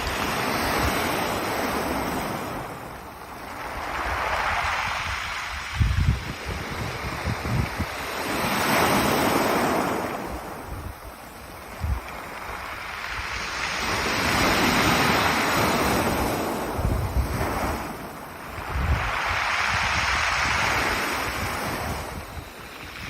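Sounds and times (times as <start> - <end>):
waves breaking on pebble beach: 0.0 - 23.0
wind buffeting microphone: 0.0 - 23.0.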